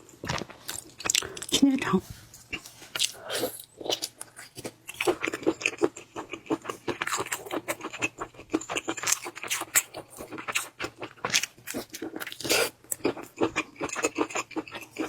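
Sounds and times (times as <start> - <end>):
person chewing crunchy food: 0.0 - 1.6, 2.4 - 15.0.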